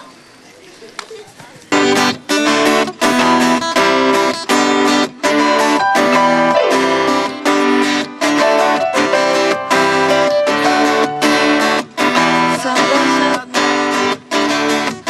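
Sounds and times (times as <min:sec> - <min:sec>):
acoustic guitar strumming chords: 0:01.8 - 0:15.0.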